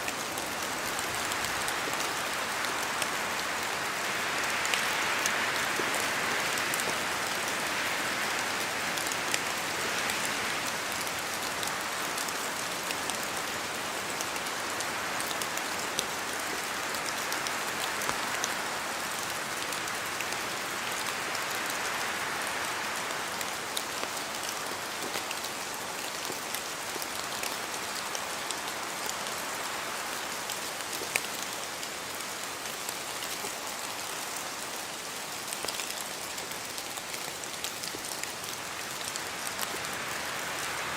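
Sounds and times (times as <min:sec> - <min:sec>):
rain falling through trees: 0:00.0 - 0:40.9.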